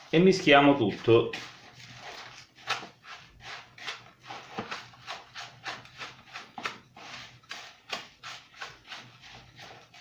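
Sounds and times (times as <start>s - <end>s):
wooden spoon stirring meat mixture: 0.0s - 10.0s.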